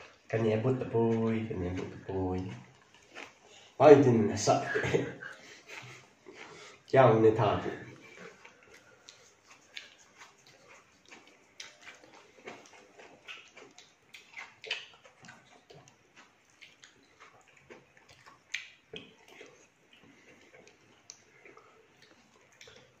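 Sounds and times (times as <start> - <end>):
mouth smacks chewing fruit: 0.0 - 23.0
small eating clicks: 0.0 - 23.0.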